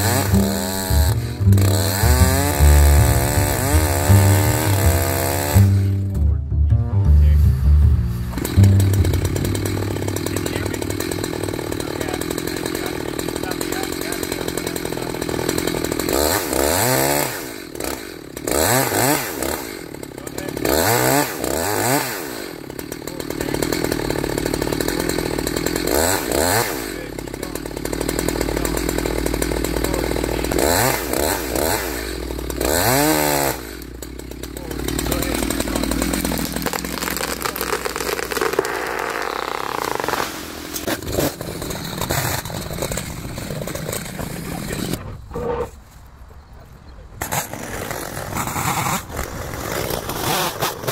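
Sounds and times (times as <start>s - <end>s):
chainsaw cutting and revving: 0.0s - 6.4s, 7.1s - 45.3s, 47.2s - 50.9s.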